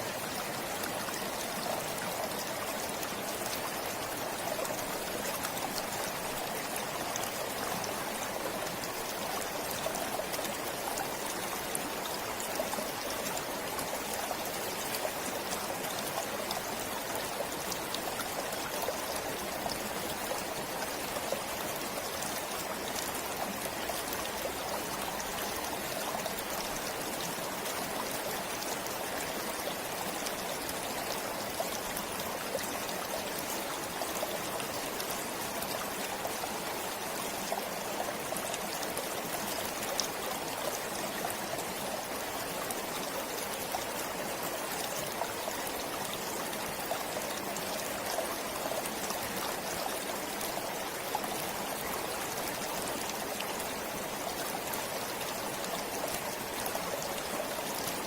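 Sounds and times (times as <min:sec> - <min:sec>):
forest stream flowing: 0:00.0 - 0:58.0.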